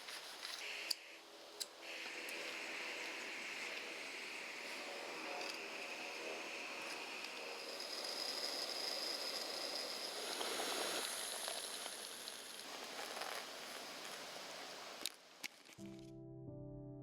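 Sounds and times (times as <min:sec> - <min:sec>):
gas stove hissing: 0:00.0 - 0:15.1.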